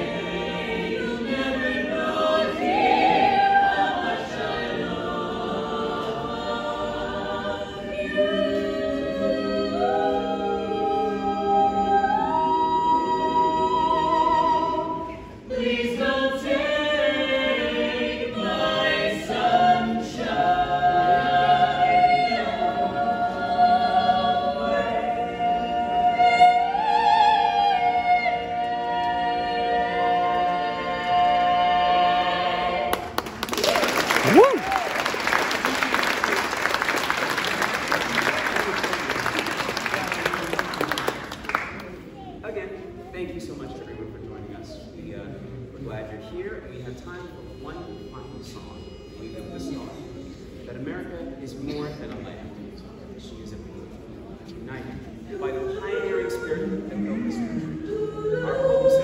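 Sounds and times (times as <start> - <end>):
mixed choir singing in harmony: 0.0 - 59.0.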